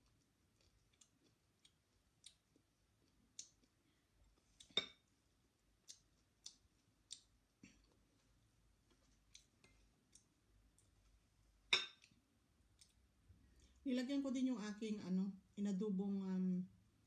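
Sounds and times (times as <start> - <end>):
person chewing food: 0.0 - 13.8.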